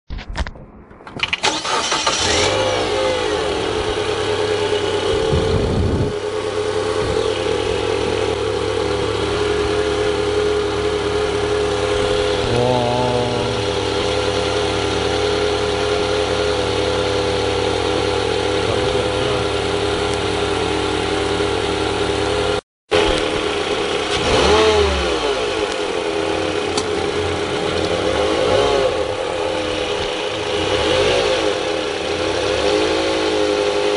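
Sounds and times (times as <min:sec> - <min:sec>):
car engine starting and idling: 0:00.6 - 0:33.9.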